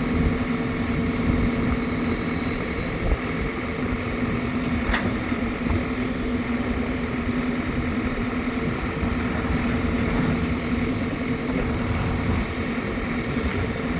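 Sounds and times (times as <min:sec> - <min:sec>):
engine running steadily: 0:00.0 - 0:13.9.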